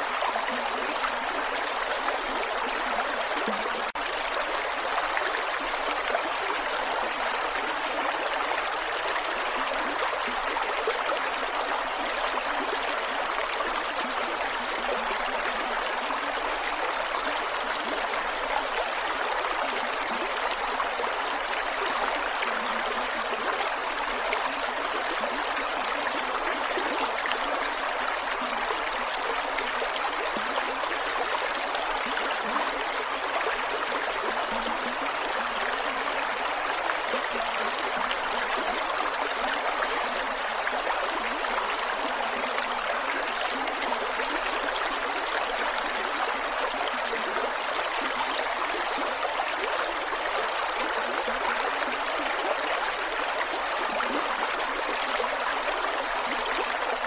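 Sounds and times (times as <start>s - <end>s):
creek water gurgling over rocks: 0.0s - 57.0s.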